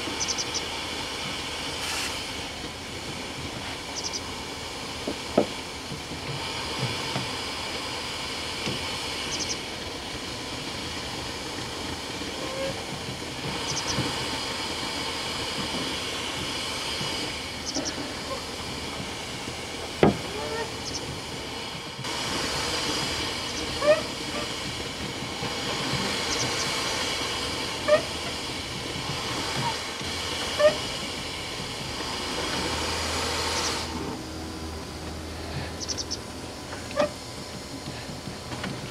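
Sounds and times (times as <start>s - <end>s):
steam hissing: 0.0s - 38.9s.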